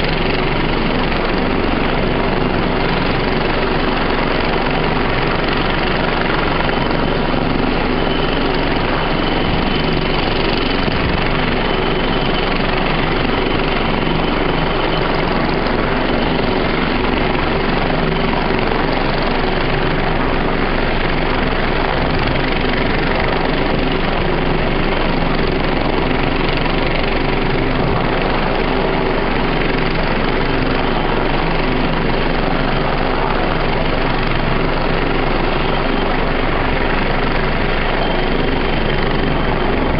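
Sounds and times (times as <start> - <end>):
helicopter engines and rotor running: 0.0 - 39.9.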